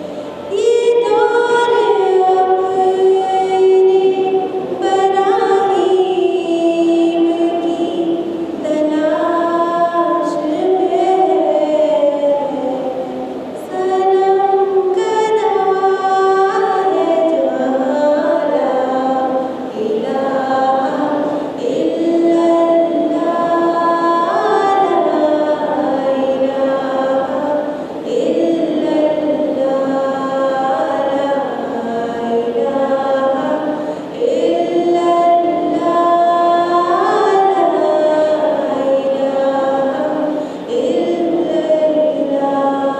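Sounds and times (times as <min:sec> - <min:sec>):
woman singing solo: 0:00.0 - 0:42.9.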